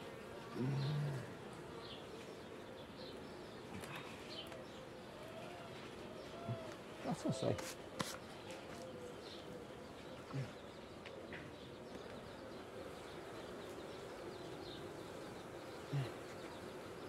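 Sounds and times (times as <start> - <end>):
honeybees humming: 0.0 - 17.0.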